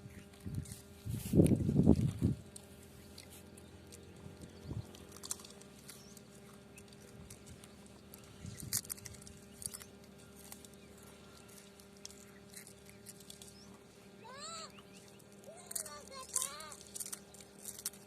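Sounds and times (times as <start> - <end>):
chewing and crunching snacks: 0.0 - 18.0.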